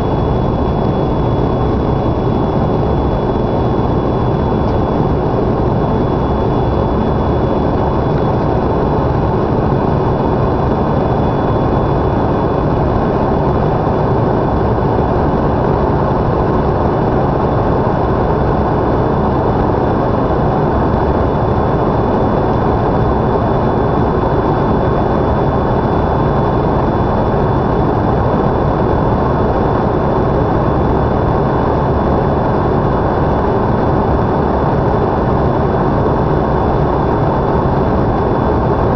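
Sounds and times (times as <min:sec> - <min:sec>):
faint high whine: 0:00.0 - 0:38.9
jet cabin airflow and engines: 0:00.0 - 0:38.9.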